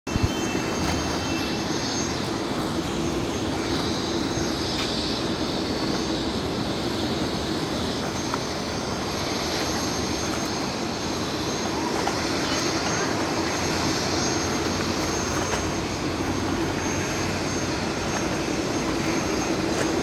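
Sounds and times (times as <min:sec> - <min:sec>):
open-air noise: 0:00.0 - 0:20.0
steady engine drone: 0:00.1 - 0:20.0.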